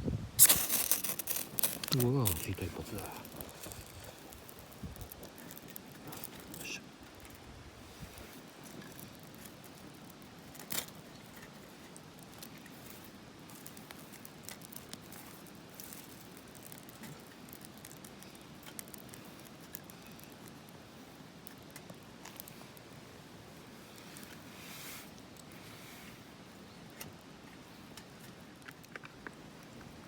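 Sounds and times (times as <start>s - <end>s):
steady low hiss: 0.0s - 30.0s
fire crackling and popping: 0.3s - 30.0s.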